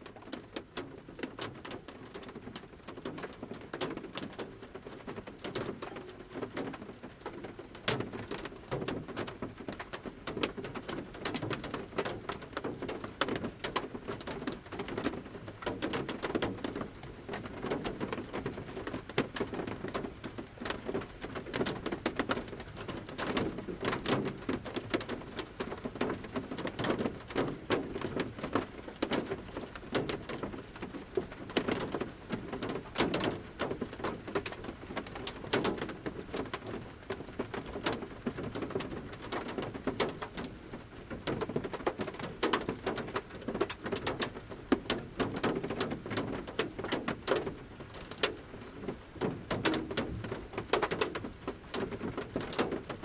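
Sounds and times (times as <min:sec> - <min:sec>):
light rain patter: 0:00.0 - 0:53.0.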